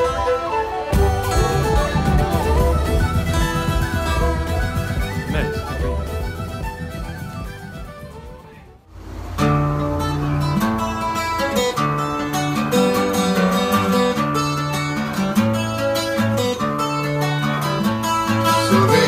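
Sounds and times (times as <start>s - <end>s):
stringed instrument strumming chords: 0.0s - 19.0s.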